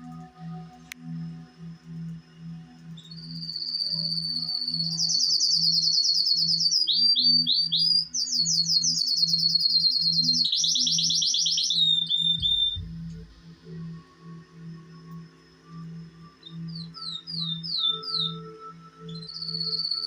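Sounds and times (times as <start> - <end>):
canary singing trills: 1.9 - 20.0.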